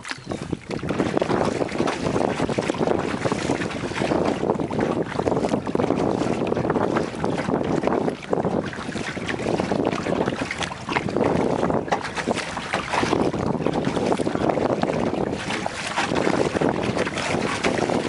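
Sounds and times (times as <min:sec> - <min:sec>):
water splashing against kayak: 0:00.0 - 0:18.0
wind buffeting microphone: 0:00.0 - 0:18.0.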